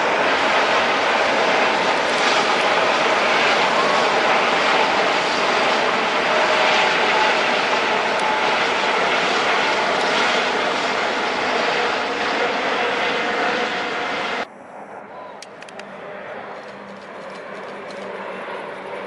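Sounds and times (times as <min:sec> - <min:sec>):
faint engine whine: 0:00.0 - 0:19.0
helicopter rotor and turbine noise: 0:00.0 - 0:19.0.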